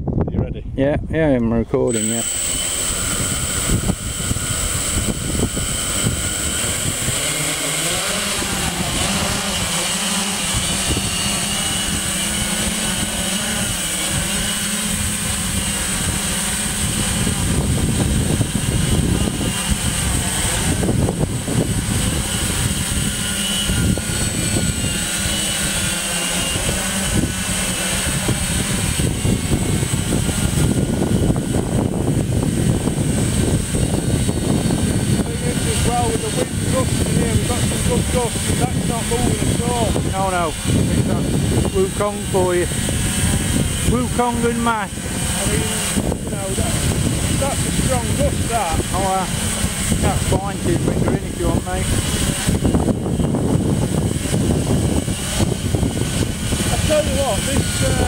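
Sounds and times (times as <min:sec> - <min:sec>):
drone motors buzzing: 0:01.2 - 0:58.0.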